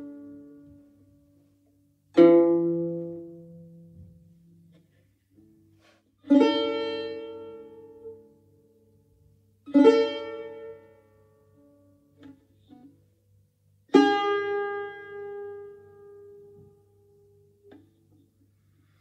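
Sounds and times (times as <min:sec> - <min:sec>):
plucked lute notes: 0:00.0 - 0:19.0.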